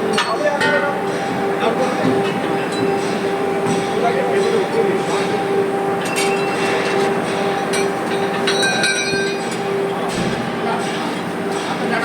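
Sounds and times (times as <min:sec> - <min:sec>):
metallic ringing: 0:00.0 - 0:12.0
train hum with held tone: 0:00.0 - 0:12.0.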